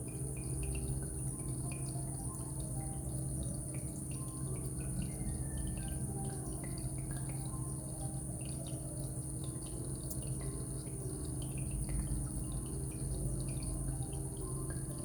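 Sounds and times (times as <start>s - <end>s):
water dripping: 0.0s - 15.0s.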